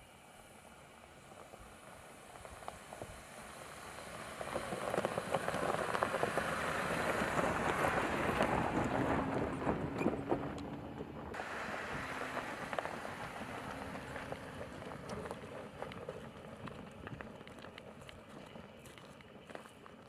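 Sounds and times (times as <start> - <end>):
tyres crunching on gravel: 3.6 - 20.0.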